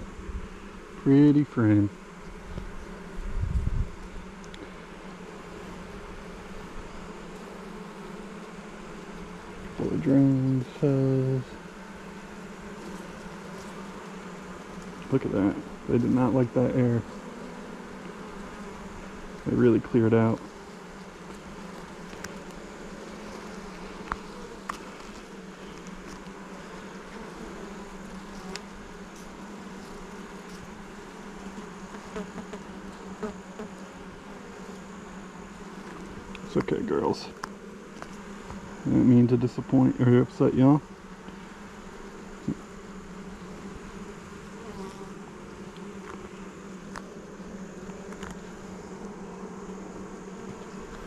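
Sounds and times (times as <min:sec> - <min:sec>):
bees buzzing: 0:00.0 - 0:51.0.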